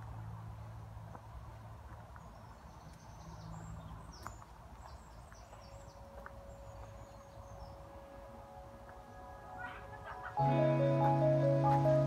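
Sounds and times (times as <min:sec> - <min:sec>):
songbird chirping: 0:01.9 - 0:12.0.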